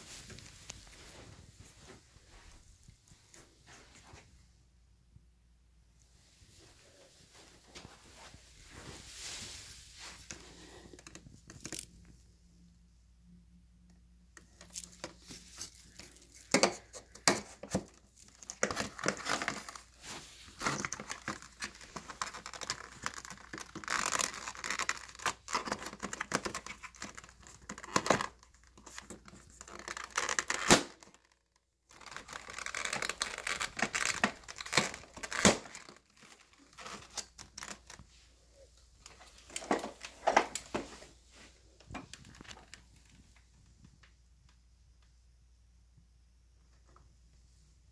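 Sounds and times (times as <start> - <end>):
rustling and scraping: 0.0 - 4.4, 6.1 - 12.2, 14.4 - 30.3, 31.9 - 44.0.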